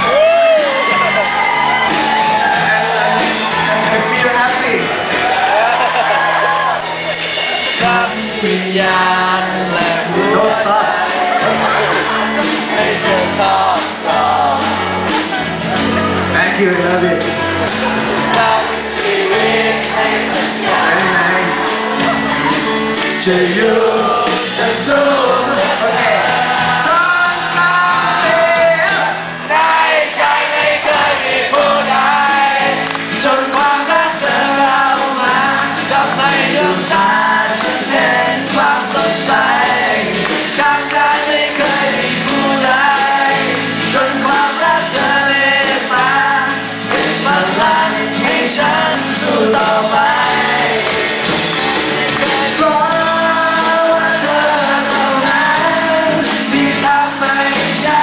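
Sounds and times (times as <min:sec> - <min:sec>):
acoustic rock band playing: 0:00.0 - 0:58.0
person singing: 0:07.6 - 0:58.0.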